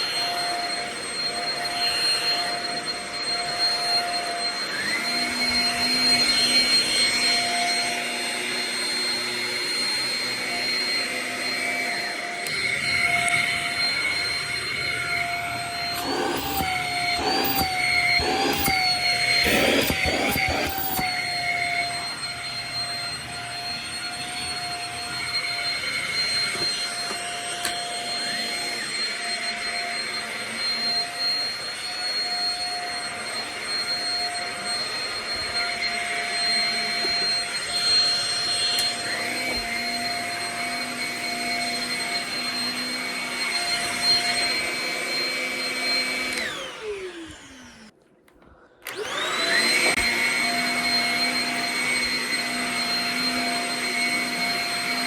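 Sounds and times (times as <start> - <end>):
stick vacuum motor whine: 0.0 - 55.0.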